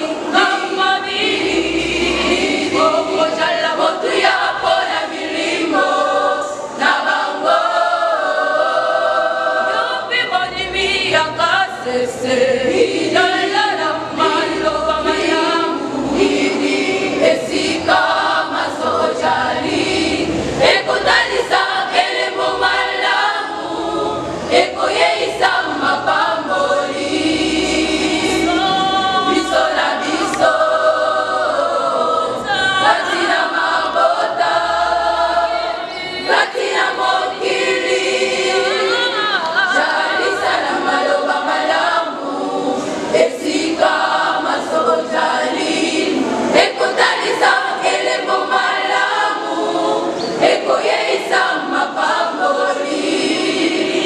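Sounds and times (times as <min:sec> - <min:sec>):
choir singing gospel: 0:00.0 - 0:54.0.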